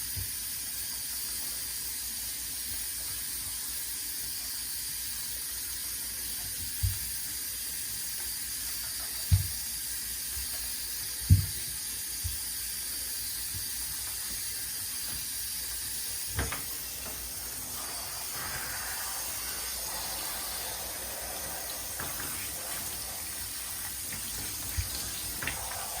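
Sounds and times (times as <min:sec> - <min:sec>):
running water hissing: 0:00.0 - 0:26.0.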